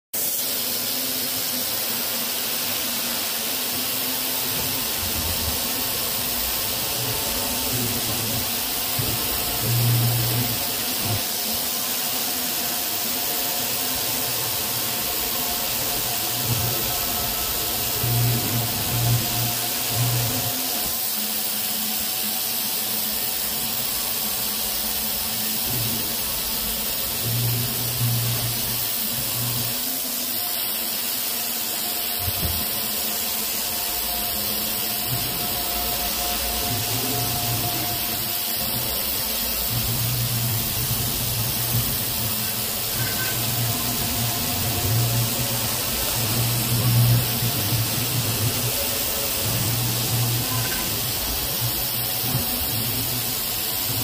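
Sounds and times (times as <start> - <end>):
air blast hissing: 0.2 - 54.0
milling cutter humming: 2.8 - 54.0.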